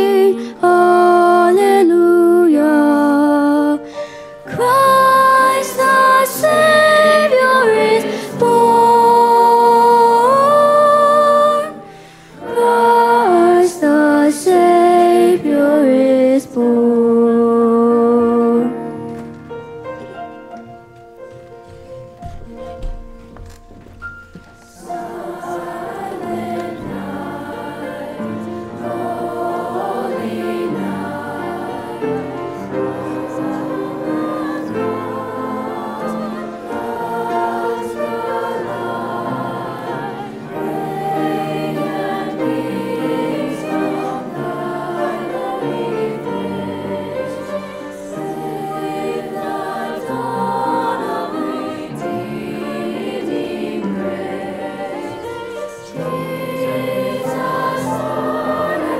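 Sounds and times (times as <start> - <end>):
school chorus singing in parts: 0.0 - 19.0, 24.7 - 58.9
piano accompaniment: 0.0 - 58.9.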